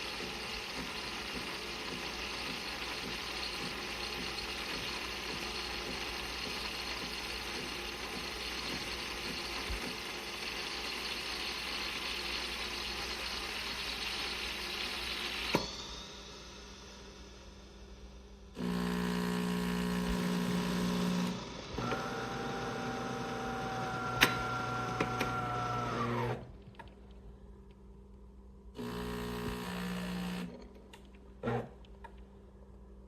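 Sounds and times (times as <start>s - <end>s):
espresso machine hissing: 0.0s - 17.6s, 18.5s - 26.4s, 28.8s - 30.5s.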